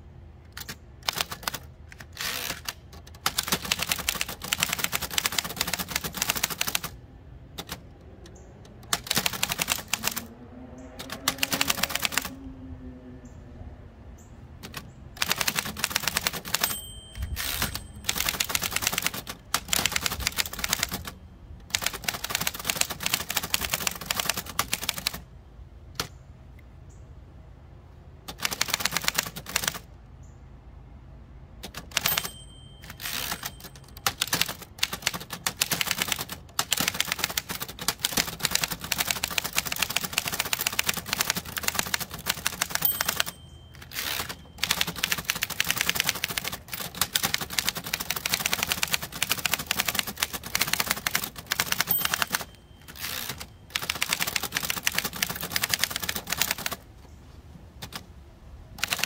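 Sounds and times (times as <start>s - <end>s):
rapid typewriter typing: 0.5s - 8.0s, 8.6s - 10.3s, 11.0s - 12.4s, 14.6s - 25.2s, 28.3s - 29.9s, 31.6s - 56.8s, 57.8s - 58.0s, 58.8s - 59.0s.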